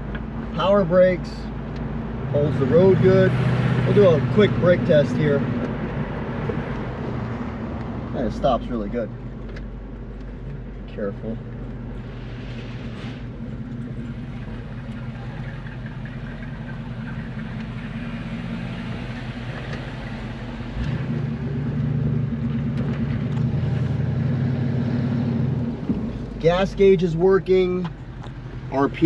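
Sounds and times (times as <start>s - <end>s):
car engine running: 0.0s - 29.0s
road noise: 0.0s - 29.0s.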